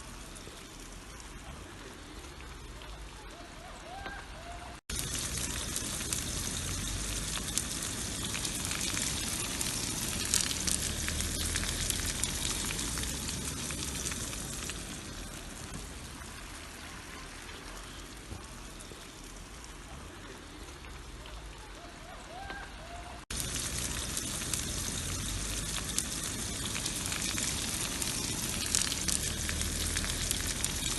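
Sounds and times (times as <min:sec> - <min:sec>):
sausage frying in oil: 0:00.0 - 0:04.1, 0:04.8 - 0:21.4, 0:23.2 - 0:30.9.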